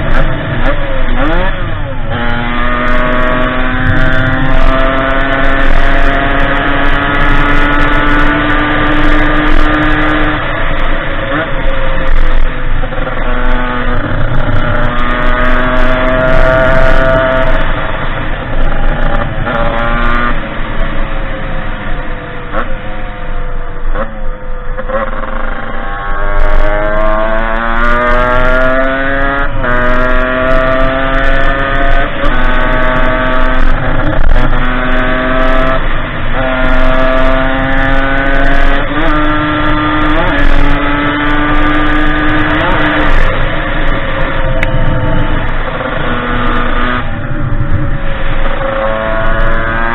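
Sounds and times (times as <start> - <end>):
dirt bike engine revving: 0.0 - 22.8, 24.8 - 49.9.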